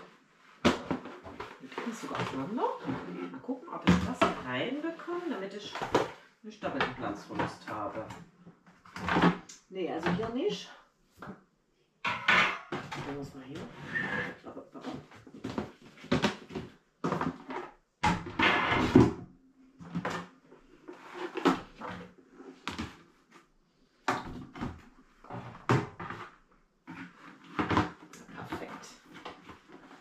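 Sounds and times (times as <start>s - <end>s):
plastic containers knocking and clattering: 0.0s - 11.4s, 12.0s - 23.0s, 24.0s - 30.0s.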